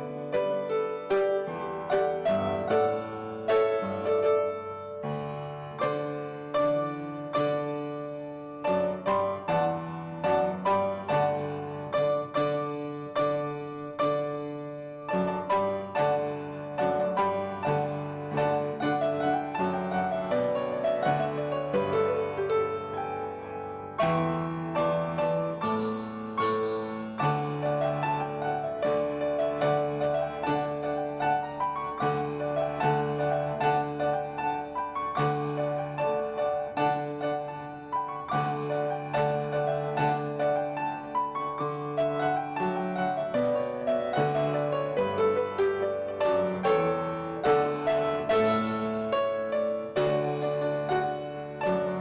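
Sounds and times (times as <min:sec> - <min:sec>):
slow piano piece: 0:00.0 - 0:52.0.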